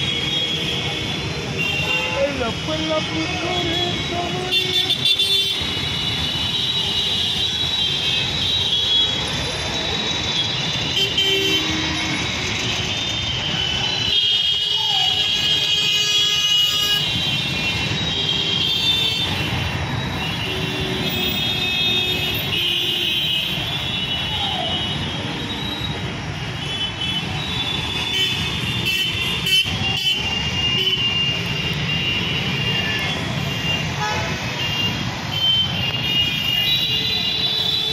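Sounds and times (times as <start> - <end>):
horns honking: 0.0 - 9.4, 10.0 - 37.9
rumble of traffic engines: 0.0 - 37.9.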